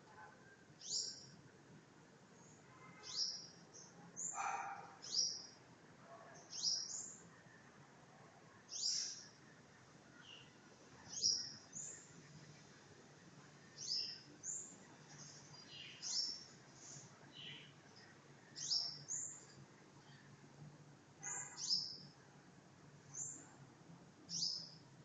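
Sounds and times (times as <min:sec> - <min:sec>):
songbird chirping: 0:00.0 - 0:01.4, 0:02.4 - 0:07.8, 0:08.4 - 0:20.4, 0:21.3 - 0:22.2, 0:24.2 - 0:24.9.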